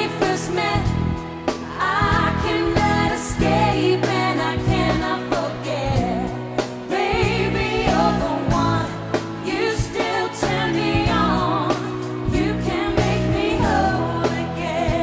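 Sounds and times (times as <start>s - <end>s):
bass guitar: 0.0s - 15.0s
drums with steady beat: 0.0s - 15.0s
women singing: 0.0s - 15.0s.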